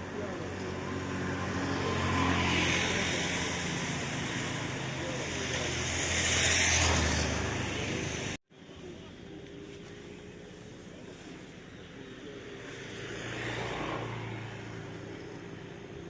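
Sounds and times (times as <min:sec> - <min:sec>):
vehicles passing on highway: 0:00.0 - 0:16.0.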